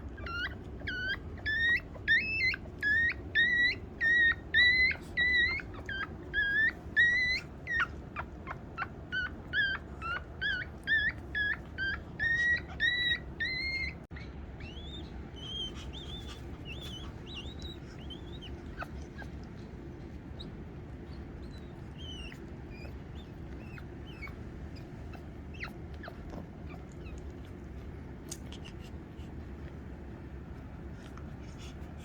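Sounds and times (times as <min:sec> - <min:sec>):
newborn animals squealing: 0:00.0 - 0:32.0.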